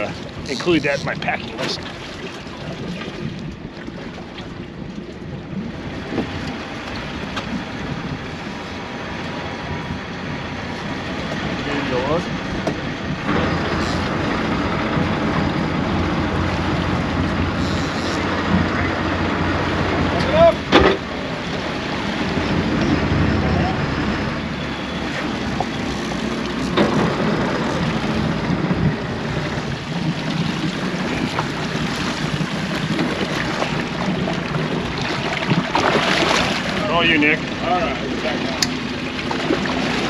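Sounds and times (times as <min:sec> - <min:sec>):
boat engine droning: 0:00.0 - 0:40.0
rush of wind and water: 0:00.0 - 0:40.0.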